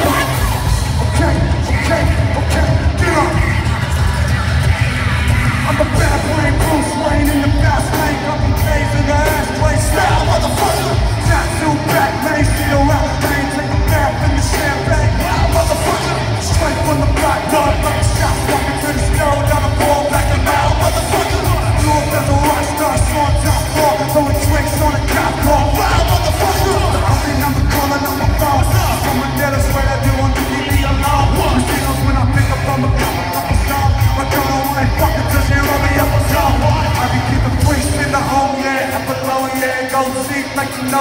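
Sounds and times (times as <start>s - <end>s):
drum kit: 0.0s - 41.0s
person singing into a microphone: 0.0s - 41.0s
rock band playing live: 0.0s - 41.0s.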